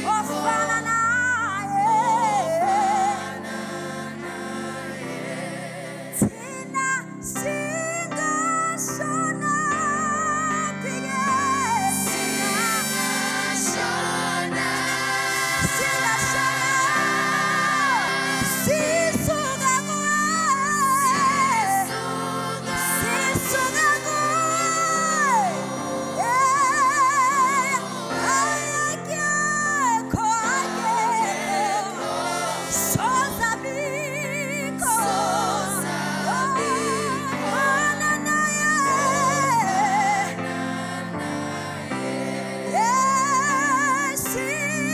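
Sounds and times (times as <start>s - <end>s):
woman singing with vibrato: 0.0s - 4.0s, 6.1s - 41.7s, 42.7s - 44.9s.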